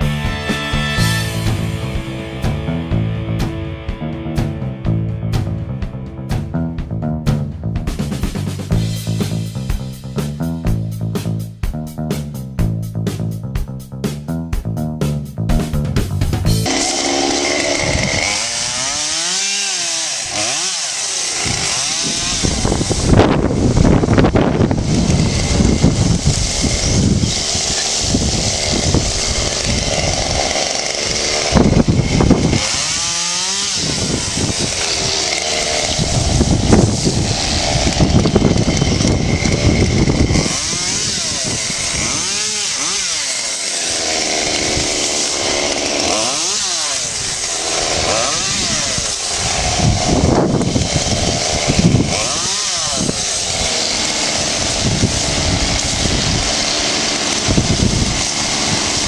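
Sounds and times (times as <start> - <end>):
chainsaw cutting wood: 0.0 - 6.4, 7.3 - 11.4, 15.7 - 59.0.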